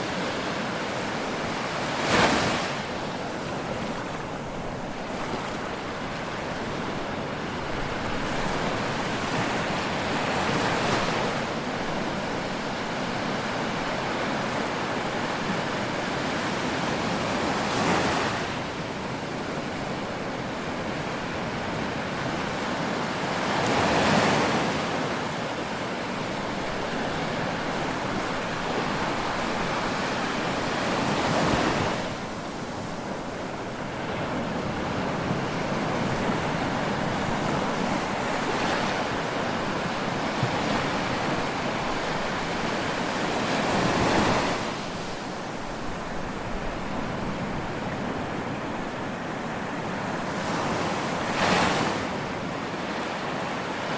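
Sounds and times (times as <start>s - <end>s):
waves breaking on a beach: 0.0s - 53.9s.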